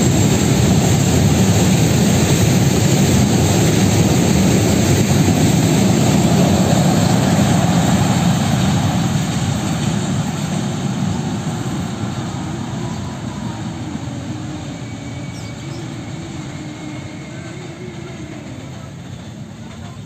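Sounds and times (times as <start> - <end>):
freight train rumbling and clattering: 0.0 - 20.0.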